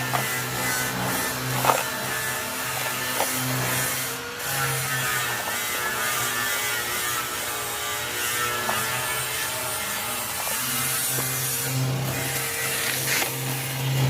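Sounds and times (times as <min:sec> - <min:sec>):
small electric motor whirring: 0:00.0 - 0:14.0.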